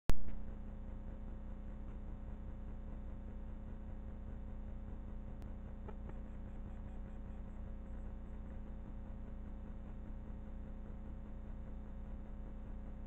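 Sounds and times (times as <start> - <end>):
steady electrical hum: 0.2 - 13.0.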